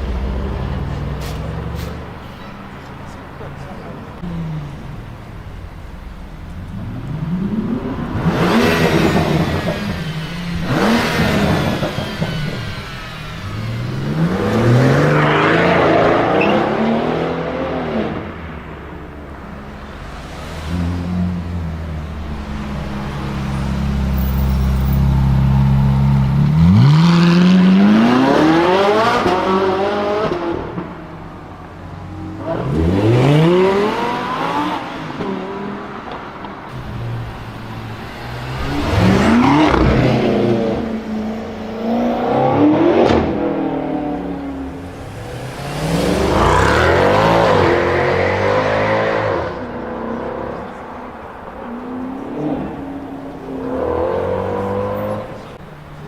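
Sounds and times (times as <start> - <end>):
car engines accelerating hard: 0.0 - 56.0.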